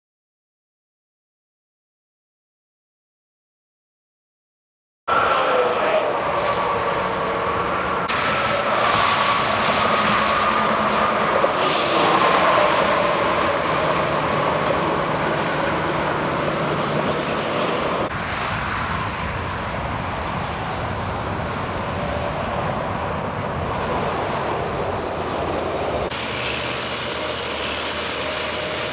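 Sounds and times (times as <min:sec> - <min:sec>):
highway traffic roar: 0:05.1 - 0:28.9
passing vehicles whining: 0:05.1 - 0:28.9.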